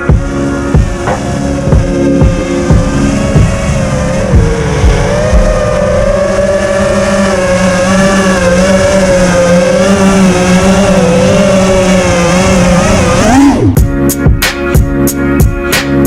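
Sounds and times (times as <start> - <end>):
drone motors whining: 0.0 - 13.9.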